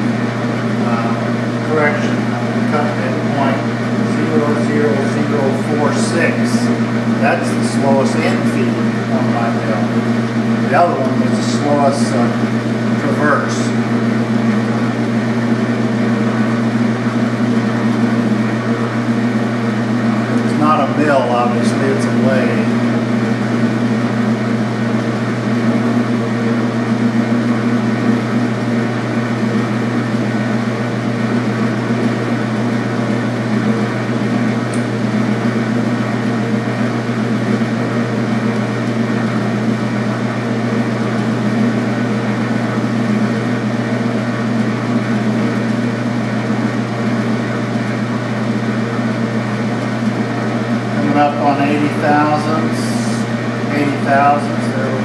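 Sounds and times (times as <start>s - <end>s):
metal lathe motor humming: 0.0s - 55.0s.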